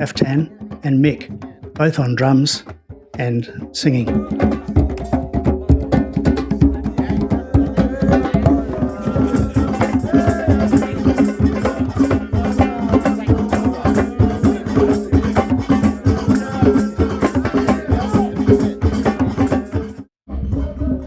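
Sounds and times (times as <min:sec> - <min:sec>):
fast hand drumming: 0:00.0 - 0:20.1
voices singing: 0:03.2 - 0:21.0.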